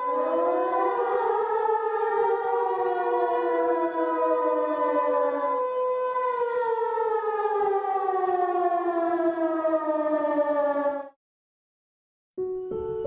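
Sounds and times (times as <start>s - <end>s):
siren-like wailing tones: 0.0s - 11.1s.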